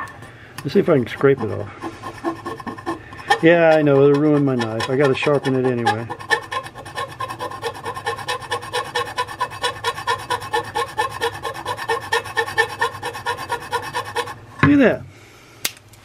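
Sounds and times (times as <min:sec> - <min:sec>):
knife scraping a frying pan: 0:00.0 - 0:14.5.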